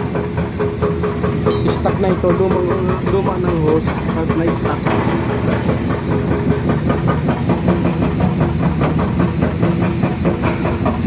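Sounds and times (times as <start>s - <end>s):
excavator diesel engine pulsing: 0.0s - 11.0s.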